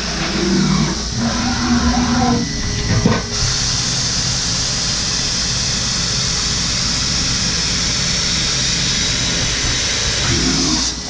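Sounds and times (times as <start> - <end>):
cnc mill spindle running: 0.0 - 11.0.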